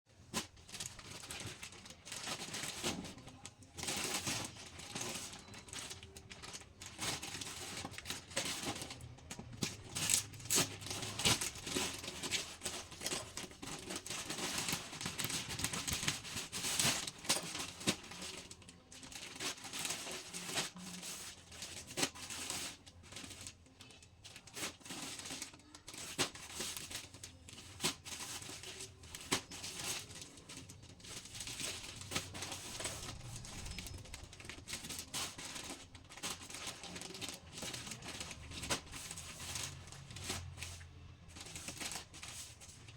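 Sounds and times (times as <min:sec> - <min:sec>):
packaging crinkling and tearing: 0:00.2 - 0:42.9.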